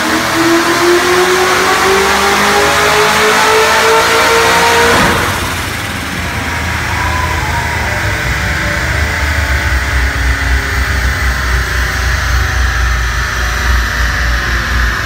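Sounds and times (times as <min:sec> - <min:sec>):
car engine revving under load: 0:00.0 - 0:15.0.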